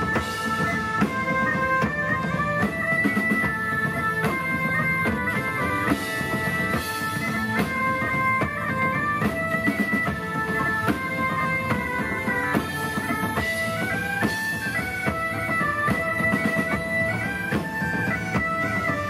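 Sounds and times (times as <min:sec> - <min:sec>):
bagpipes playing a tune: 0:00.0 - 0:19.0
drums: 0:00.0 - 0:19.0
strummed string instrument: 0:00.0 - 0:19.0.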